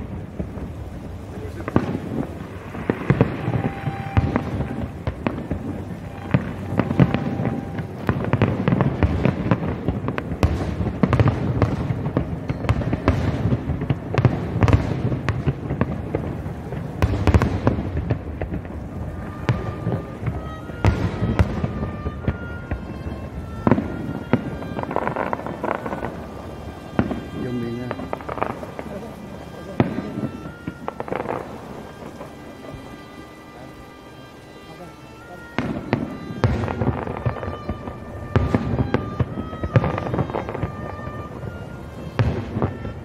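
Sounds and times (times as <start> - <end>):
firework shells bursting: 0.0 - 43.0.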